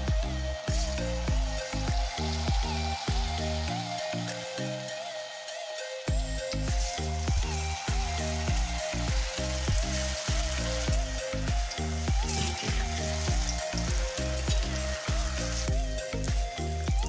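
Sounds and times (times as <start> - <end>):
background music with beat: 0.0 - 17.0
deep-frying sizzle: 0.0 - 17.0.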